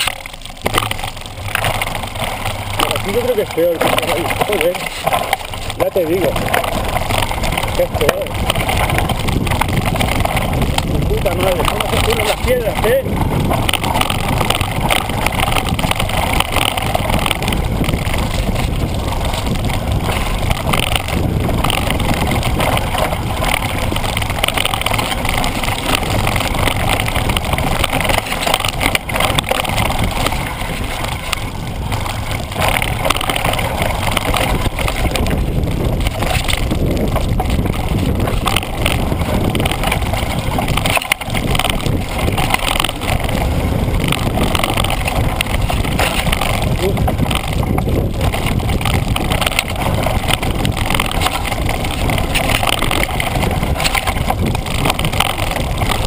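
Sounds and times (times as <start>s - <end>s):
bike rattling: 0.0s - 56.0s
tyres over dirt and stones: 0.0s - 56.0s
wind rushing on microphone: 0.0s - 56.0s.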